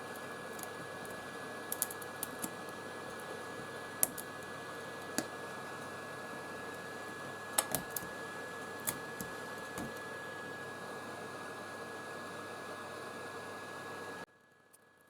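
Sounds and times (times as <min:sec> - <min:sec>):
small blower motor whirring: 0:00.0 - 0:14.2.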